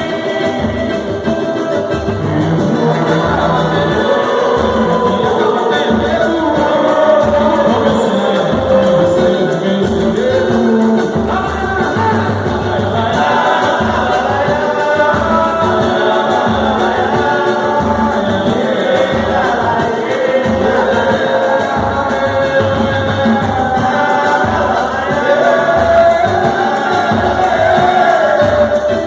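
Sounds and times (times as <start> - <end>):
steady low beat: 0.0 - 29.0
voices singing together: 0.0 - 29.0.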